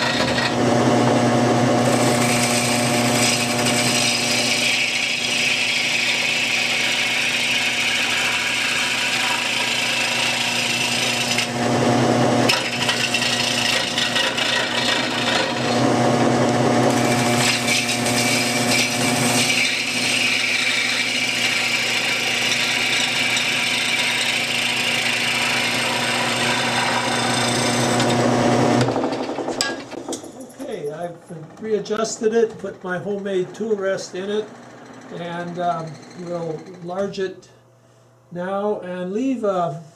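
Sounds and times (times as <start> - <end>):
lathe motor humming: 0.0 - 37.1.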